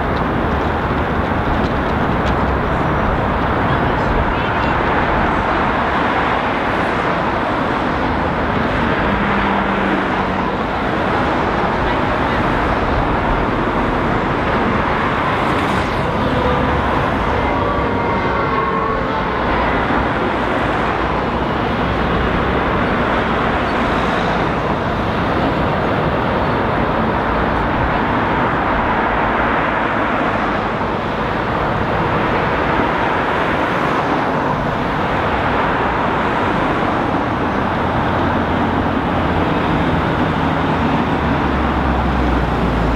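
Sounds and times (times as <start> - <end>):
cars passing: 0.0 - 42.9.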